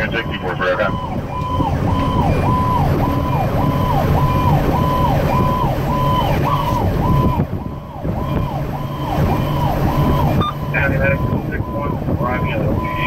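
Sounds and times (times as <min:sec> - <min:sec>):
truck engine rumble: 0:00.0 - 0:13.0
electronic siren cycling: 0:00.1 - 0:11.9.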